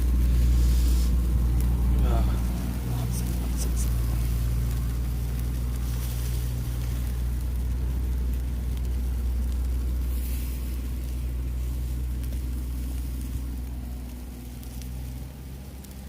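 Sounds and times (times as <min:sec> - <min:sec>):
faint crackles: 0:00.0 - 0:16.0
low engine-like hum: 0:00.0 - 0:16.0.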